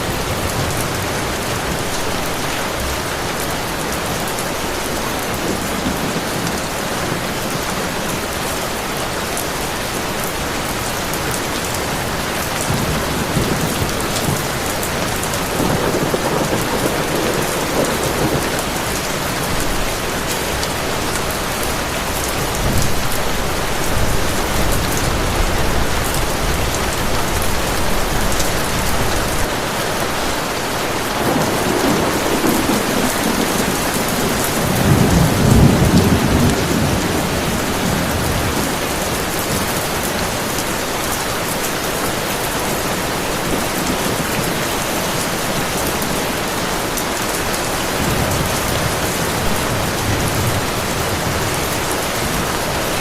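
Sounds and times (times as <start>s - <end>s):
heavy rain pouring: 0.0s - 53.0s
thunder rumbling: 0.0s - 53.0s.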